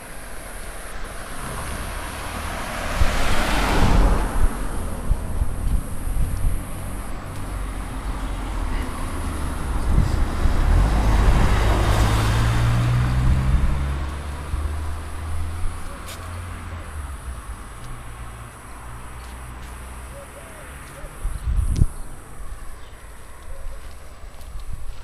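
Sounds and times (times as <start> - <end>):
vehicle driving past: 0.2 - 20.9.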